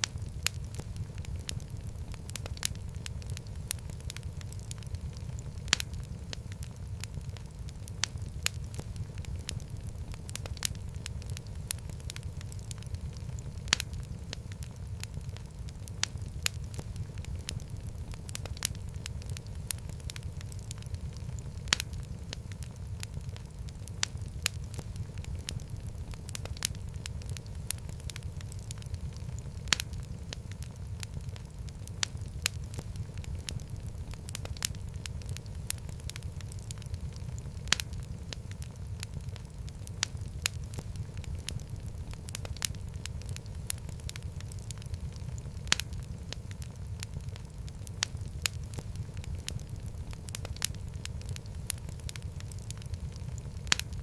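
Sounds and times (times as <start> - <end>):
fireplace fire crackling: 0.0 - 54.0
rumble of flames: 0.0 - 54.0.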